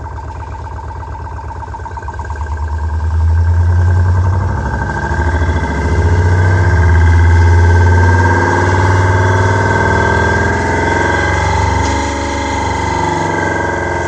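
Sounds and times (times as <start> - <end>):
simulated engine drone from speaker: 0.0 - 14.0.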